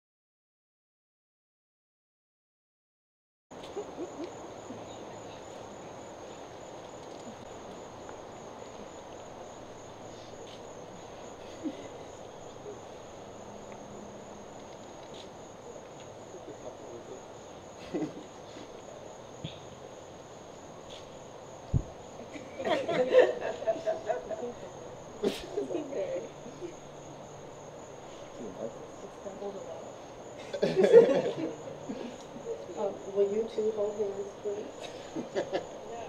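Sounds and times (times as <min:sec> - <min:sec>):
crickets trilling: 0:03.5 - 0:36.0.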